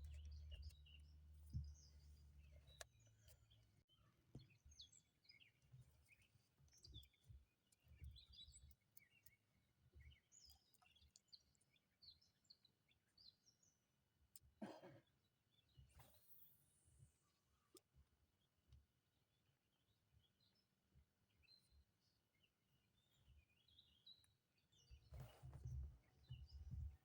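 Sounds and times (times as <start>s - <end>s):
faint birdsong chirps: 0.0s - 27.0s.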